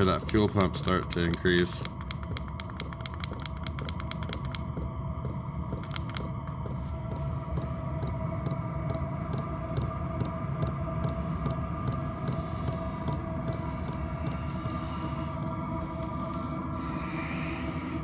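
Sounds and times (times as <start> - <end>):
fuel pump ticking: 0.0 - 17.6
air heater humming: 0.0 - 18.0.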